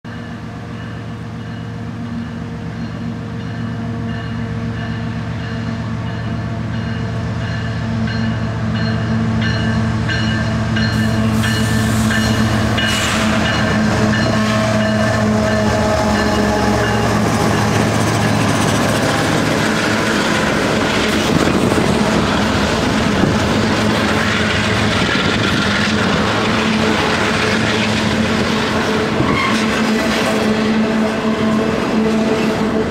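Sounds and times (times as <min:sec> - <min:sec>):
diesel locomotive engines droning: 0:00.1 - 0:32.9
train wheels rumbling and clacking: 0:00.1 - 0:32.9.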